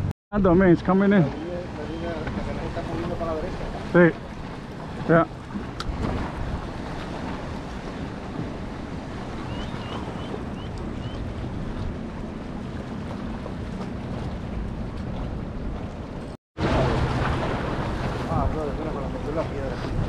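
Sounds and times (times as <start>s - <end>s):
motorboat drone: 0.0s - 20.0s
water lapping against rocks: 1.3s - 20.0s
wind on microphone: 2.0s - 20.0s.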